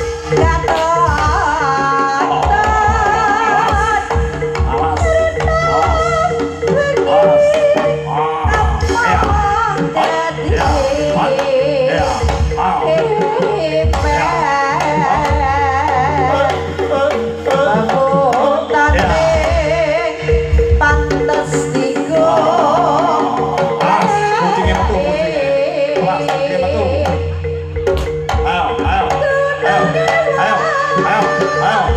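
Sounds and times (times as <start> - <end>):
hand drums beating: 0.0 - 31.9
ornamented melody: 0.0 - 31.9.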